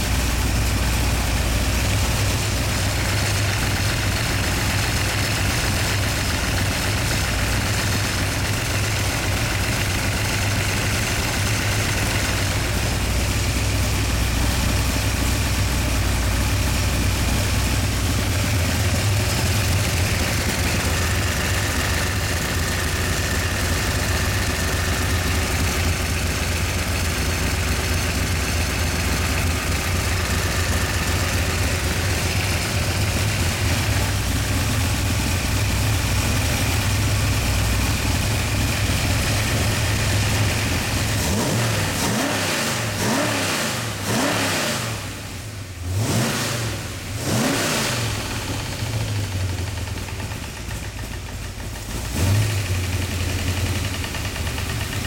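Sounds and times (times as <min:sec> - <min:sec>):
engine running and revving: 0:00.0 - 0:55.0.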